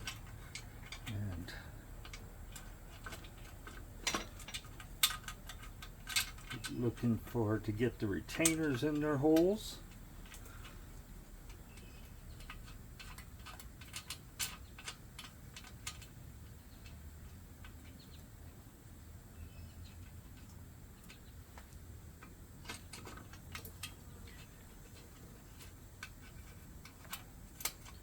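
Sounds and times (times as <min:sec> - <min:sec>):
metal parts clicking and tapping: 0:00.0 - 0:18.6, 0:19.9 - 0:28.0.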